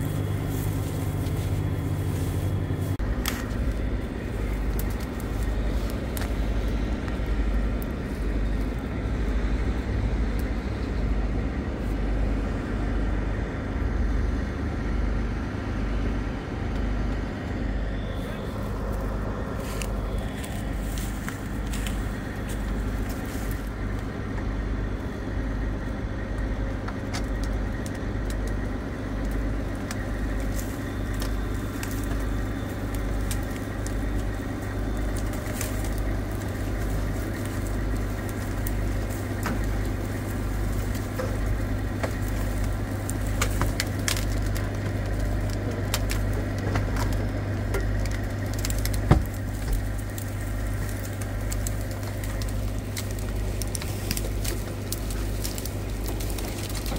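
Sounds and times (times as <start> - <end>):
brush cracking: 0.0 - 11.0, 18.1 - 56.9
diesel truck engine rumbling: 0.0 - 56.9.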